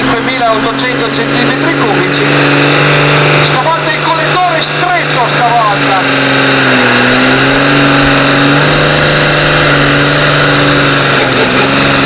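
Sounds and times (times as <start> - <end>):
tractor engine at high revs: 0.0 - 12.0.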